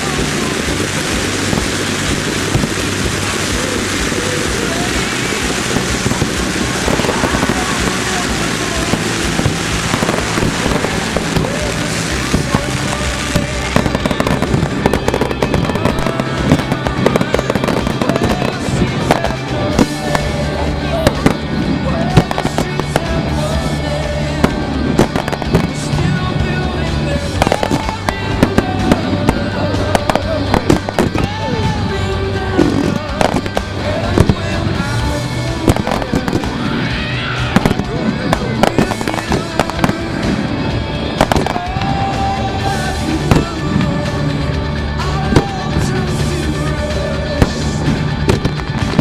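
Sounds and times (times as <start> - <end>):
fireworks bangs and crackles: 0.0 - 49.0
music playing: 0.0 - 49.0.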